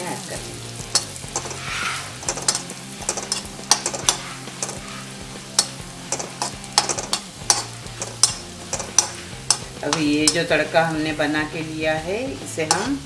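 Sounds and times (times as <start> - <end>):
oil sizzling: 0.0 - 13.0
spoon scraping metal pan: 0.9 - 11.1, 12.6 - 13.0.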